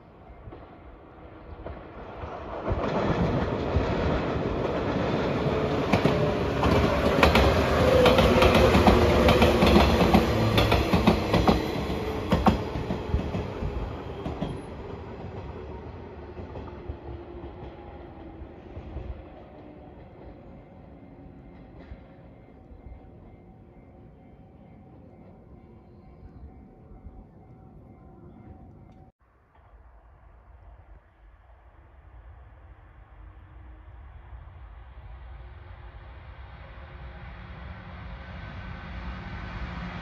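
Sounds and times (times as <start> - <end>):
electric train rumbling past: 0.0 - 30.0, 31.5 - 40.0.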